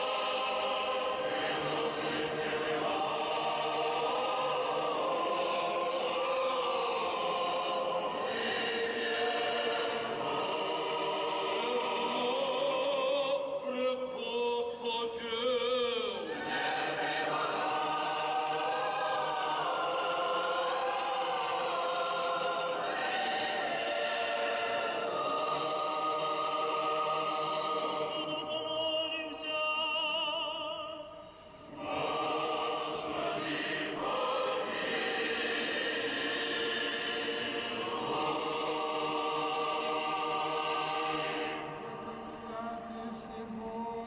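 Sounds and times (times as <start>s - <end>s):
choir chanting in harmony: 0.0s - 44.0s.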